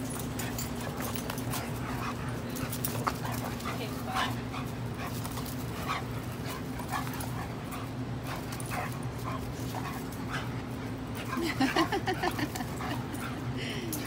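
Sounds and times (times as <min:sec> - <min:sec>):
dogs play-fighting vocalizing: 0:00.0 - 0:14.0
steady low hum: 0:00.0 - 0:14.0.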